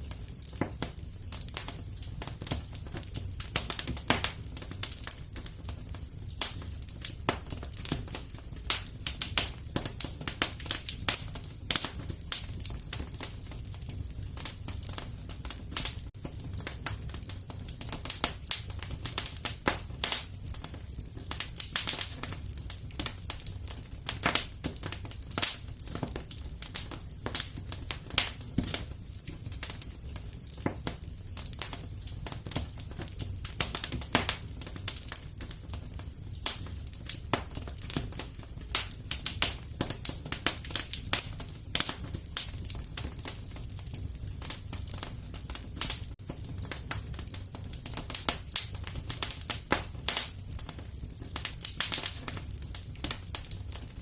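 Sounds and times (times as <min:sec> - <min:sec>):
fireplace crackling: 0:00.0 - 0:54.0.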